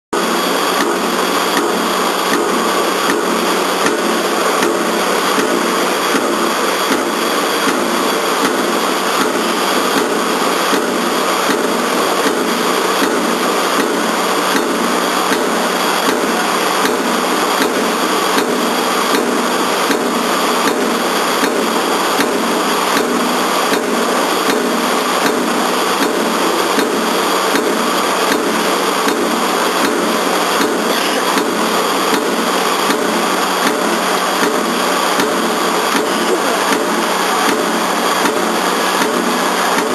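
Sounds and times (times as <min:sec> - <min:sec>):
machine hum: 0:00.2 - 0:39.9
power press punching steel plate: 0:00.2 - 0:39.9.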